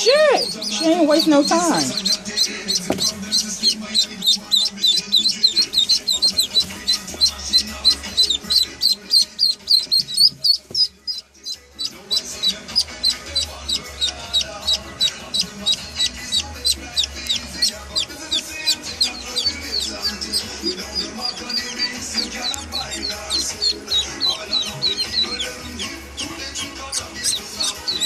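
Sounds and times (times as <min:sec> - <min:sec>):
ducklings peeping: 0:00.0 - 0:28.0.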